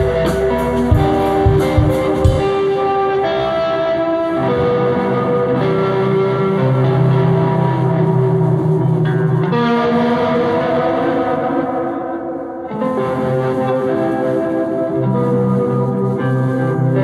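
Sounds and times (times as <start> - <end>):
live band playing guitar music: 0.0 - 17.0.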